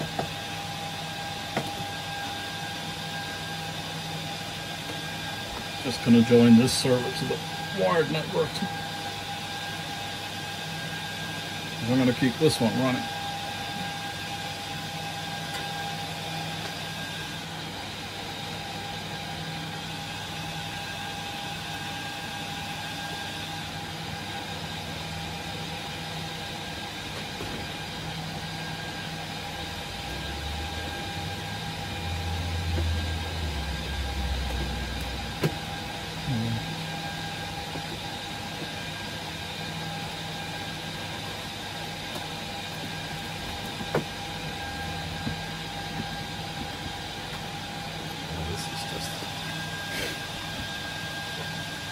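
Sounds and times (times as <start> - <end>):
server cooling fans whirring: 0.0 - 51.9.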